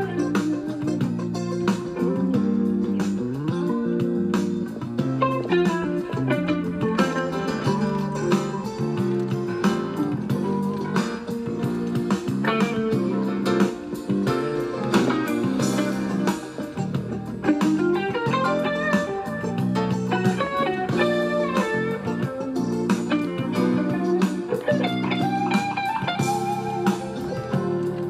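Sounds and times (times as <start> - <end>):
plucked guitar music: 0.0 - 28.0.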